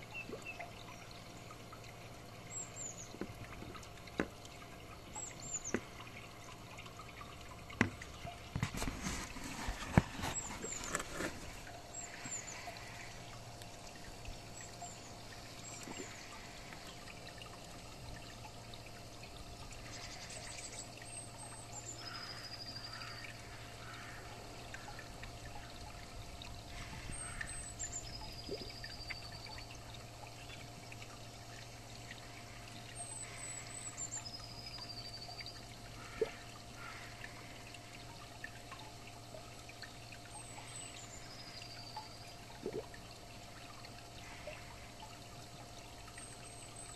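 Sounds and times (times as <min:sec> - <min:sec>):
low steady hum: 0:00.0 - 0:46.9
water trickling in a pond: 0:00.0 - 0:46.9.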